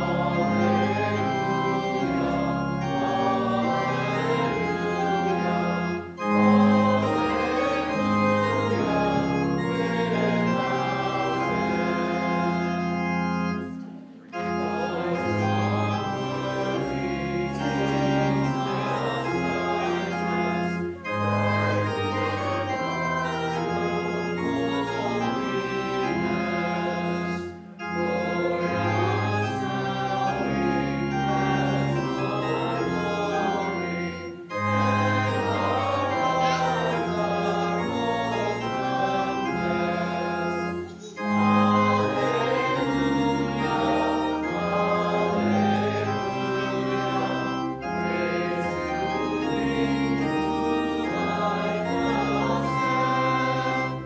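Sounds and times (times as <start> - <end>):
church organ playing a hymn: 0.0 - 54.0.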